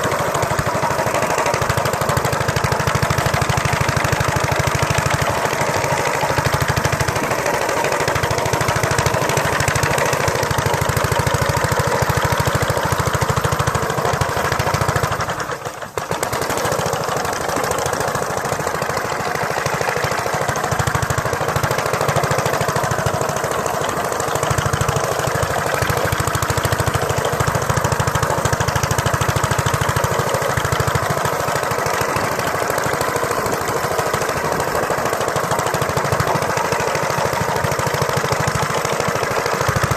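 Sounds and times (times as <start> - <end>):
small engine chattering: 0.0 - 39.9.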